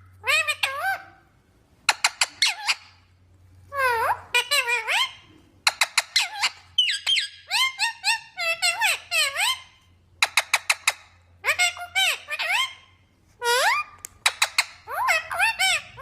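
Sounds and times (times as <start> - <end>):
parrot calling in high gliding calls: 0.0 - 3.1, 3.7 - 16.0.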